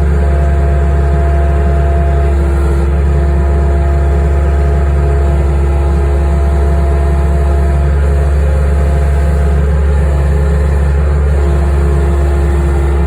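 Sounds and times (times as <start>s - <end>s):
skid steer engine drone: 0.0s - 13.0s.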